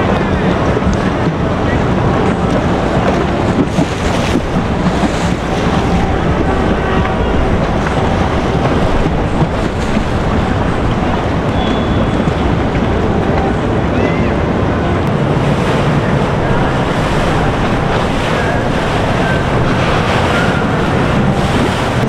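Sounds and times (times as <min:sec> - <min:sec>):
boat and water noise: 0:00.0 - 0:22.0
wind on microphone: 0:00.0 - 0:22.0.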